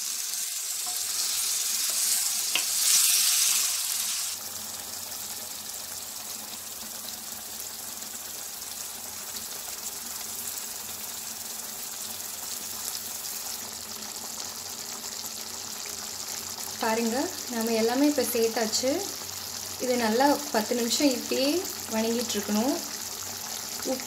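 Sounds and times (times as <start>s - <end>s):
tomatoes sizzling in oil: 0.0s - 24.0s.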